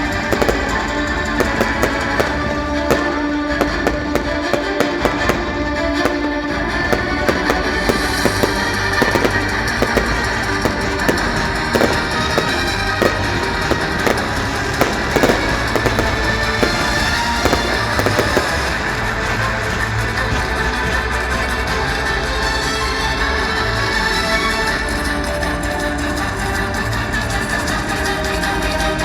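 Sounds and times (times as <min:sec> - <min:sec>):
fireworks banging and crackling: 0:00.0 - 0:23.3
music playing: 0:00.0 - 0:27.0.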